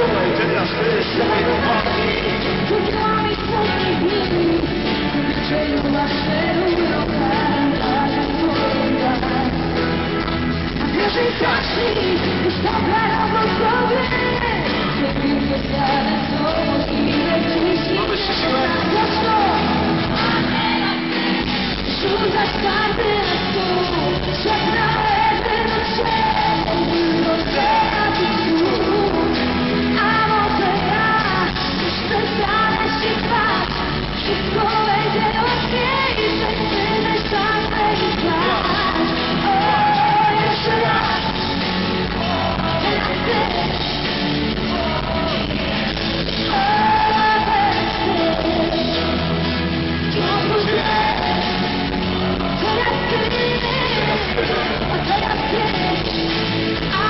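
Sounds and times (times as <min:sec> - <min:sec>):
female and male vocals: 0:00.0 - 0:57.0
live pop band: 0:00.0 - 0:57.0.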